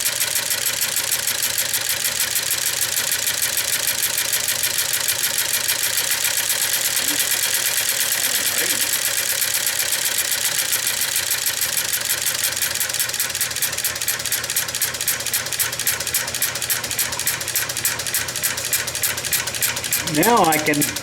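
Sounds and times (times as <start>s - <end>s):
rapid engine ignition clicking: 0.0s - 21.0s
steady motor hum: 0.0s - 21.0s.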